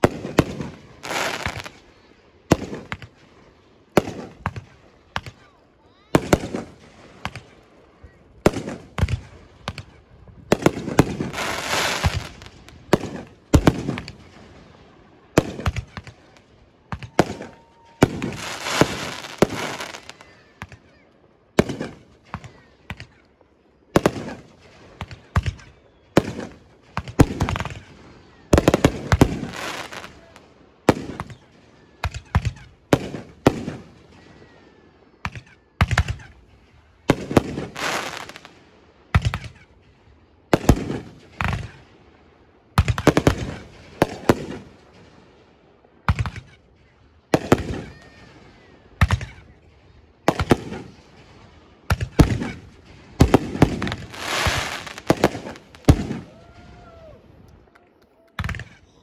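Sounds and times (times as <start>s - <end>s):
fireworks booming with echo: 0.0s - 23.2s, 23.9s - 57.6s, 58.3s - 59.0s.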